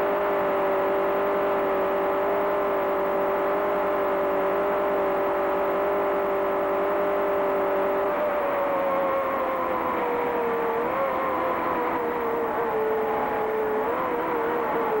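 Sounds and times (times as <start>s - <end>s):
racing engine running hard: 0.0s - 15.0s
steady whine: 0.0s - 15.0s.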